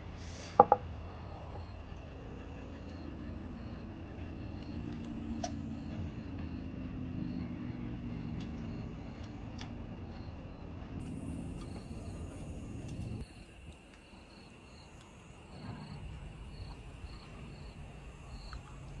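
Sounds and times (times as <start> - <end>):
high insect drone: 0.0 - 19.0
insects chirping: 0.1 - 19.0.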